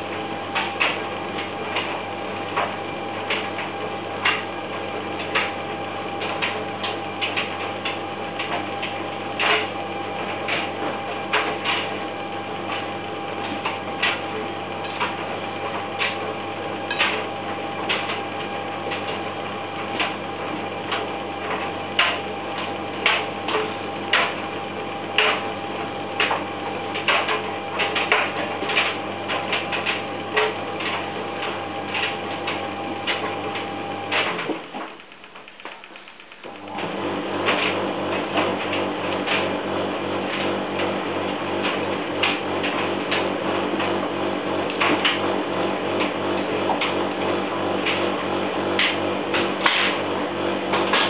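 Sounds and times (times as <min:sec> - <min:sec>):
washing machine motor hum: 0:00.0 - 0:51.0.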